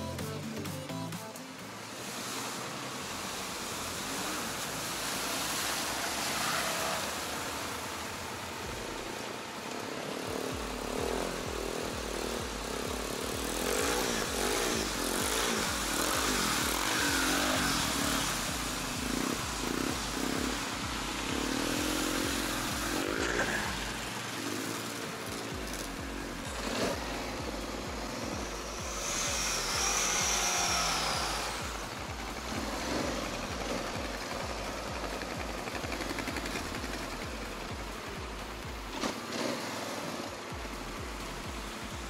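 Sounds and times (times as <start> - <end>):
quad bike engines revving: 1.7 - 42.0.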